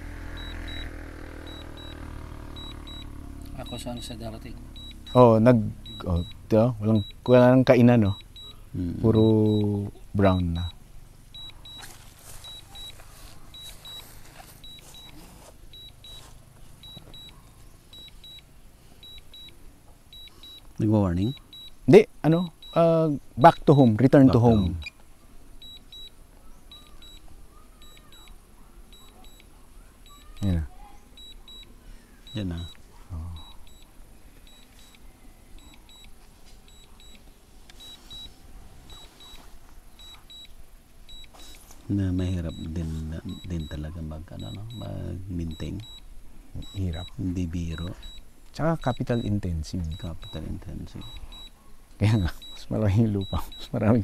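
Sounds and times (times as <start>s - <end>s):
remote controller warning beeps: 0.2s - 25.0s, 25.6s - 54.0s.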